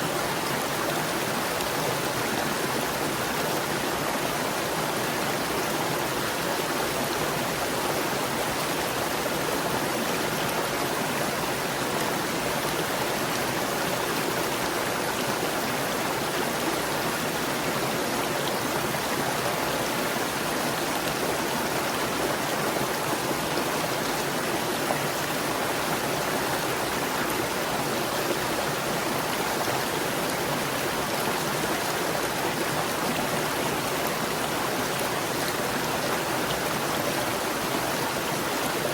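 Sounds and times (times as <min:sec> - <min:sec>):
stream gurgling over rocks: 0:00.0 - 0:38.9.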